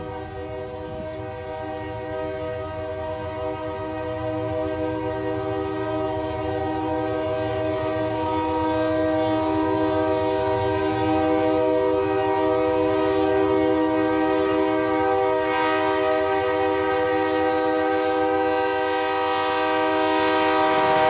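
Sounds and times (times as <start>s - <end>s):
locomotive air horn blast: 0.0s - 21.0s
low rumble of locomotives: 0.0s - 21.0s.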